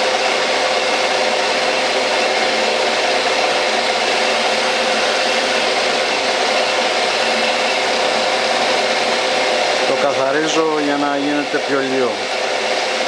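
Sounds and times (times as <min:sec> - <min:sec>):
metal lathe motor whine: 0:00.0 - 0:13.0.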